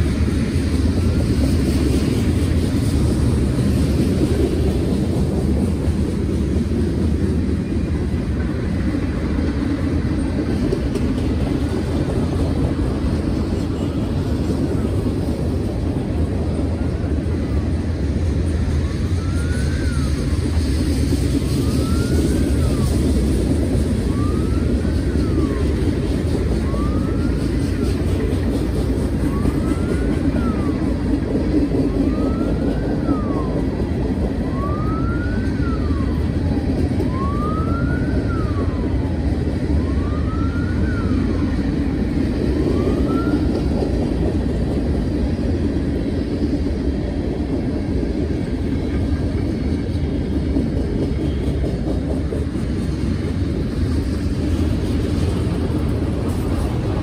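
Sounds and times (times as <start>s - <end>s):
freight car wheels rumbling on rails: 0.0s - 57.0s
wailing siren: 0.0s - 57.0s.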